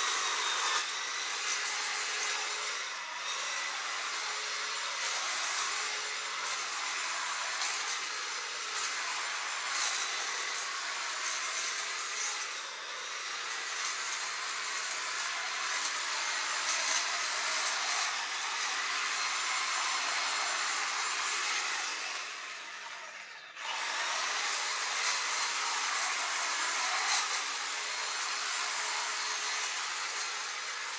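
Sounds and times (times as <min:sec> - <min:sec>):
electric hedge clippers running: 0:00.0 - 0:30.9.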